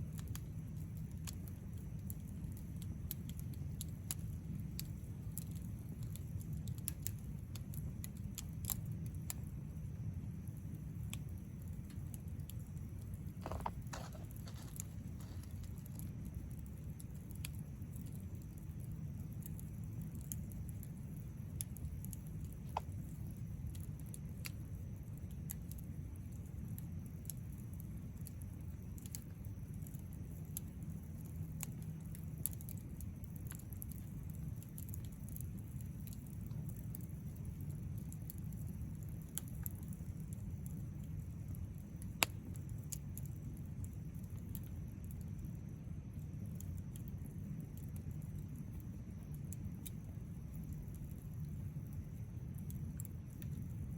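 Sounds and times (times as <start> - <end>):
burning wood crackling and popping: 0.0 - 53.9
campfire flame rumble: 0.0 - 53.9.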